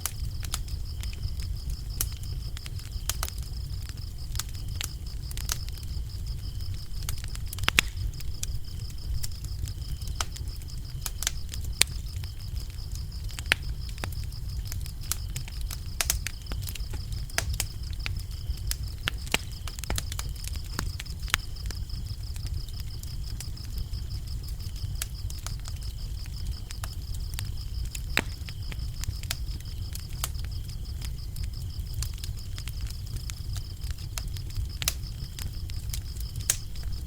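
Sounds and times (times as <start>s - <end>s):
crickets chirping: 0.0s - 37.0s
wood fire crackling: 0.0s - 37.0s.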